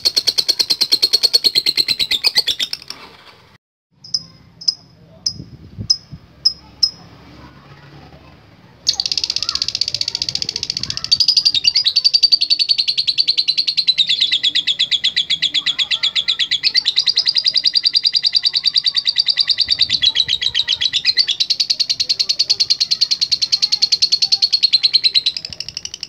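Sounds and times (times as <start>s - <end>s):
bird chattering rapid shrill notes: 0.0s - 2.9s, 4.0s - 7.0s, 8.8s - 26.0s.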